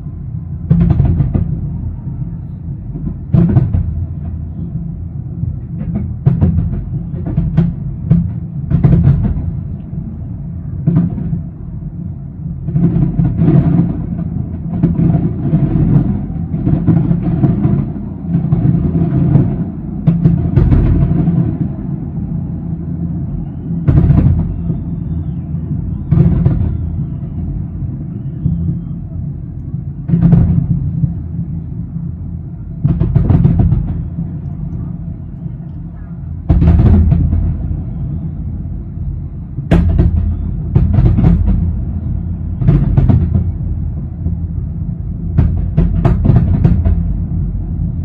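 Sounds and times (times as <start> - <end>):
continuous low rumble: 0.0 - 48.0
fireworks booming: 0.5 - 48.0.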